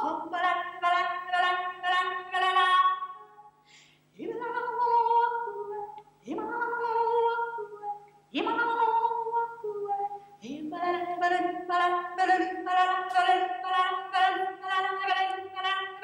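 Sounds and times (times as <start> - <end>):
woman singing unaccompanied: 0.0 - 16.0.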